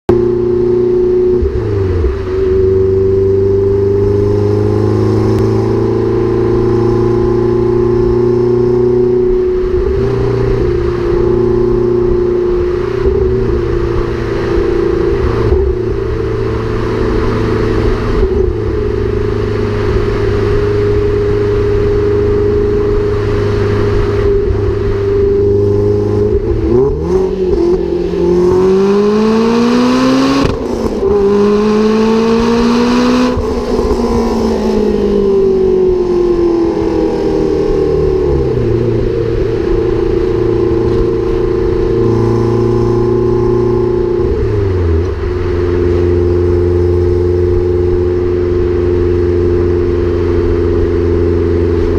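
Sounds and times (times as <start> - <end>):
car engine running: 0.1 - 51.9.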